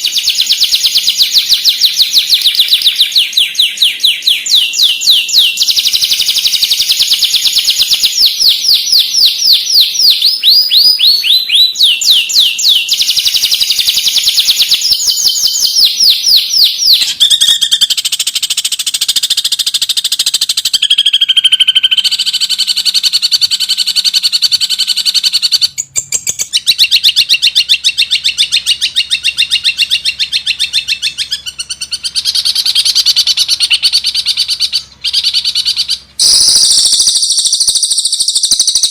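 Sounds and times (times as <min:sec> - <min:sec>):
shrike singing trills: 0:00.0 - 0:38.9.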